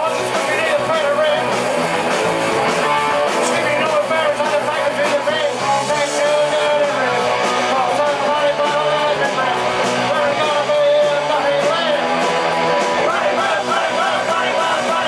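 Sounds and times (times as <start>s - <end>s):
man singing into a microphone: 0.0s - 1.5s, 3.4s - 12.1s, 13.0s - 15.0s
drums: 0.0s - 15.0s
electric guitars: 0.0s - 15.0s
punk rock band playing: 0.0s - 15.0s.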